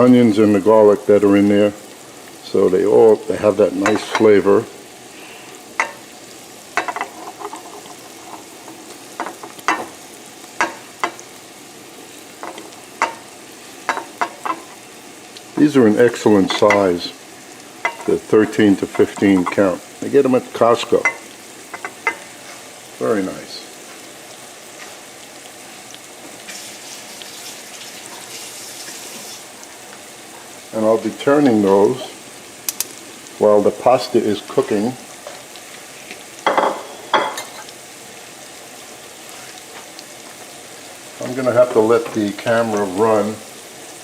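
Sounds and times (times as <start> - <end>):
shrimp sizzling in a frying pan: 0.0 - 44.0.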